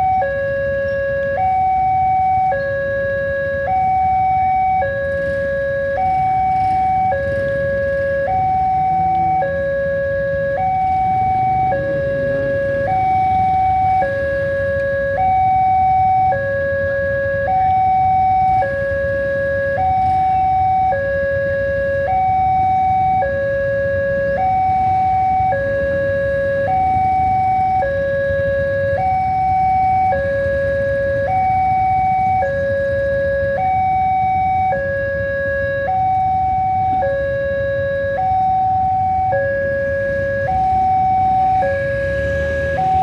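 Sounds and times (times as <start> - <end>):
two-tone crossing alarm: 0.0 - 43.0.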